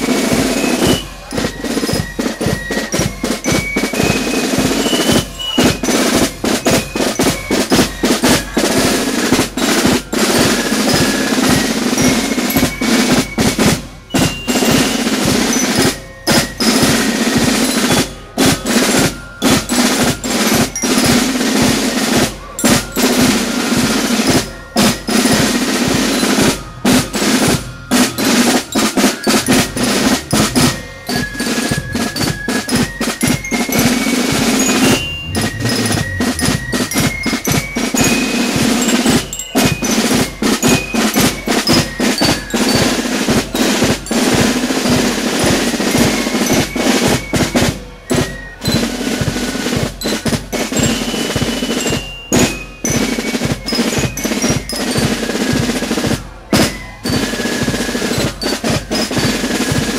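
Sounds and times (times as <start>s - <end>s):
high melody of short notes: 0.0s - 59.9s
snare drums rolling: 0.0s - 59.9s.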